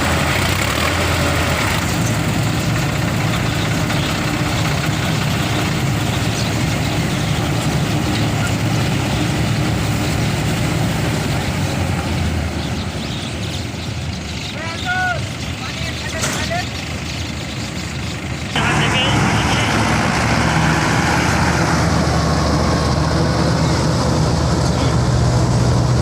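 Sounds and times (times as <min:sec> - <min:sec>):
combine harvester engine drone: 0:00.0 - 0:26.0
machinery noise: 0:00.0 - 0:26.0.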